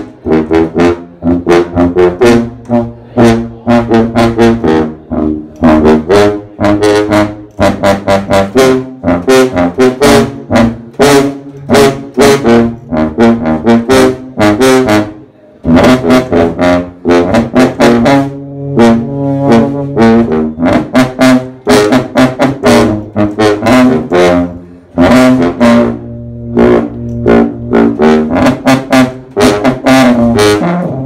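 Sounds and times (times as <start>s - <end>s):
sousaphones playing fanfare: 0.0s - 31.0s.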